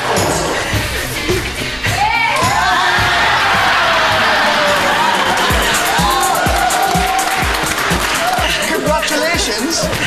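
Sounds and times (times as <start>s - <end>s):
group cheering and screaming: 0.0s - 9.8s
background music: 0.0s - 10.0s.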